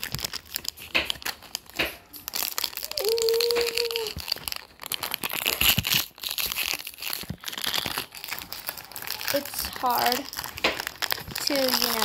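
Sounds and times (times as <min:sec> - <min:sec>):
plastic wrapping crackling: 0:00.0 - 0:12.0.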